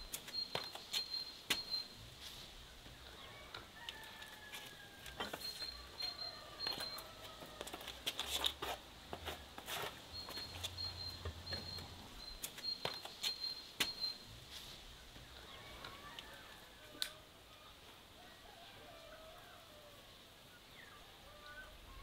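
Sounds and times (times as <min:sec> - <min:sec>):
songbirds calling: 0:00.0 - 0:08.6, 0:09.4 - 0:22.0.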